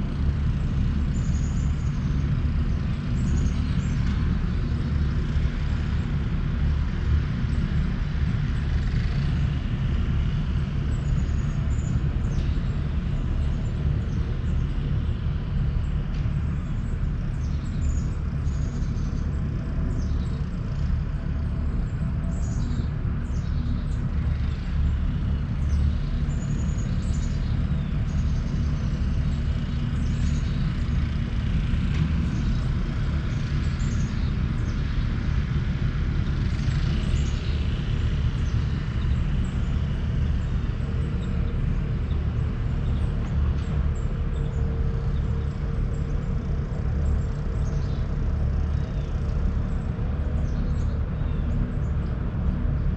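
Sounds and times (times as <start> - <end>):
steady low rumble: 0.0 - 52.9
small birds chirping: 0.2 - 52.9.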